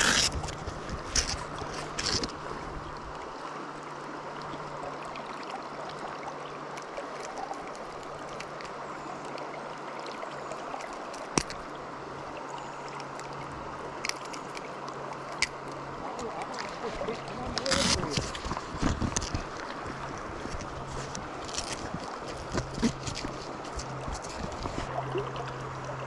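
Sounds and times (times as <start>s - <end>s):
river water running over rocks: 0.0s - 26.0s.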